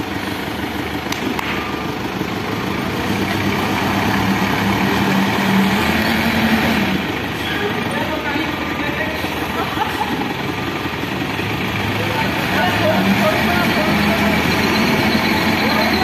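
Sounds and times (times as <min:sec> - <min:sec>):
truck engine running under load: 0:00.0 - 0:16.0.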